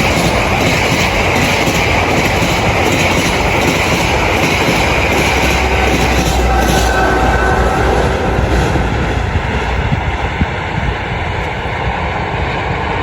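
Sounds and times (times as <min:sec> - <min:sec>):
train rushing on track: 0:00.0 - 0:13.0.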